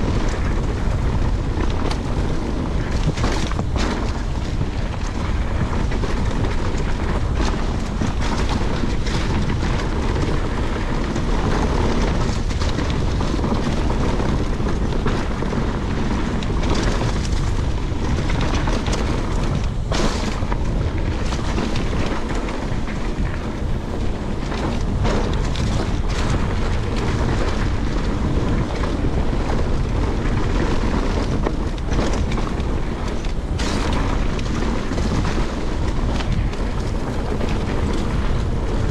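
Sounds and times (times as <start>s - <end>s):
bike knocks and rattles: 0.0s - 38.9s
tyres rolling over dirt: 0.0s - 38.9s
wind buffeting microphone: 0.0s - 38.9s.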